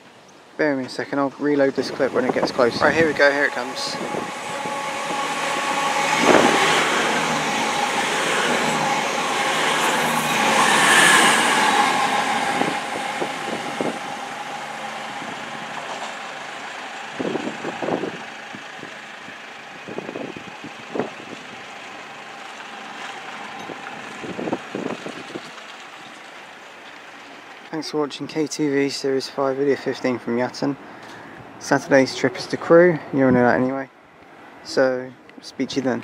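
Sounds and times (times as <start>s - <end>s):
diesel train running through station: 0.0s - 36.0s.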